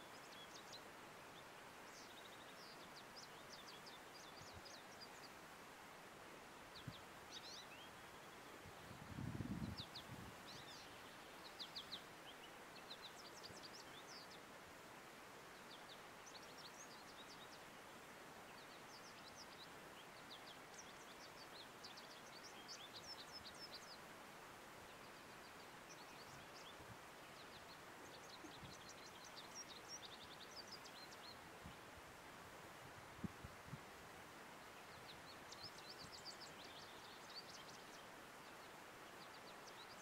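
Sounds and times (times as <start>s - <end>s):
background hiss: 0.0s - 40.0s.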